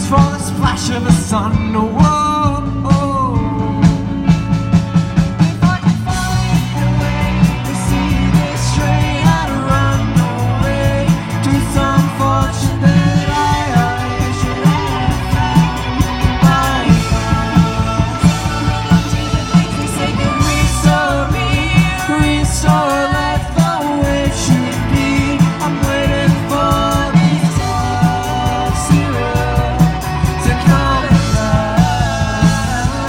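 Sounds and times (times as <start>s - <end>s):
rock song with singing: 0.0s - 33.0s.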